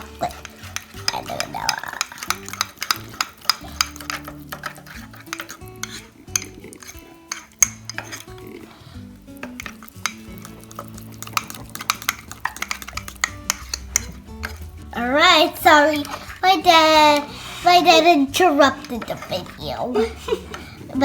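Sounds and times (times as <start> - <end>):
fork stirring batter in a mug: 0.0 - 21.0.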